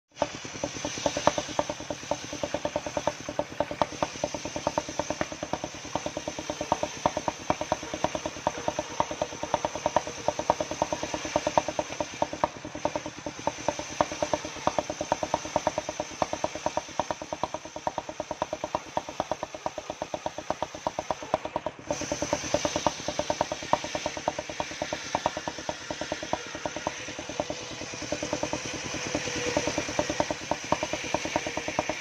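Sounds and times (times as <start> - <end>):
saw whine cutting wood: 0.1 - 32.0
sawmill engine knocking: 0.1 - 32.0.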